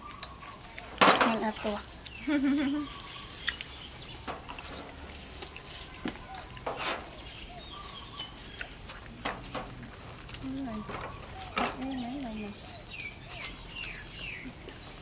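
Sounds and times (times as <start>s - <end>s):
faint bird calls: 0.0s - 4.9s, 5.6s - 8.8s, 10.4s - 14.8s.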